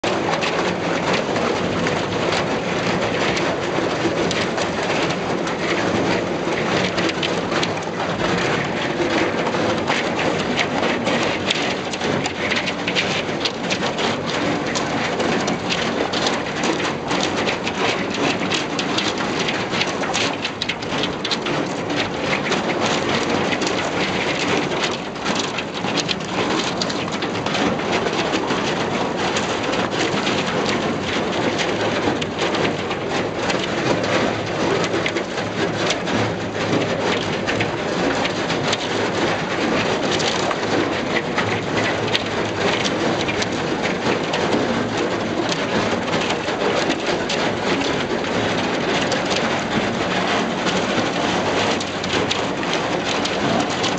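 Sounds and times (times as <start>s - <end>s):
ice crackling against boat hull: 0.0s - 53.9s.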